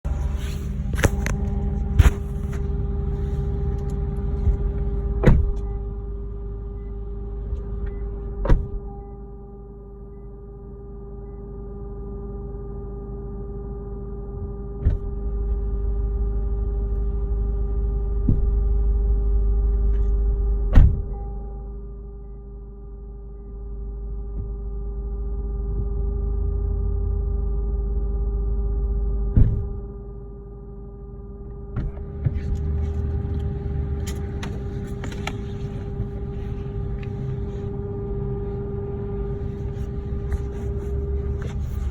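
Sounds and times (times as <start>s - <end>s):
low rumble: 0.0s - 9.4s, 14.2s - 22.2s, 23.3s - 41.9s
buzzing hum: 0.0s - 41.9s.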